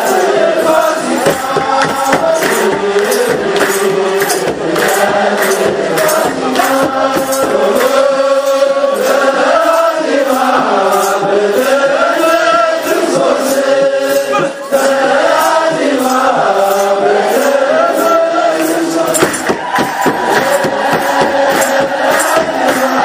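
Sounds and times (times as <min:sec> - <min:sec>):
hand claps: 0:00.0 - 0:11.9, 0:14.2 - 0:23.0
drums beating: 0:00.0 - 0:23.0
many voices chanting a hymn: 0:00.0 - 0:23.0.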